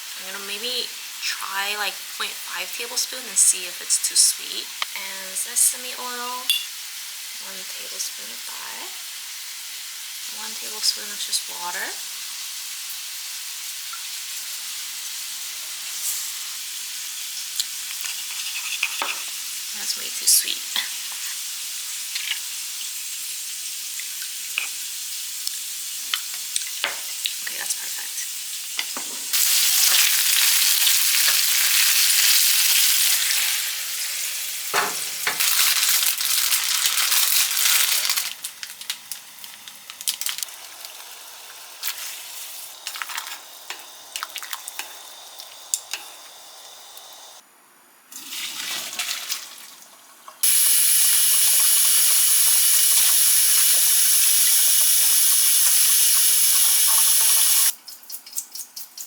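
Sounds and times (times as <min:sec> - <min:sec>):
meat sizzling in a hot pan: 0:00.0 - 0:05.0, 0:05.6 - 0:47.4, 0:50.4 - 0:57.7.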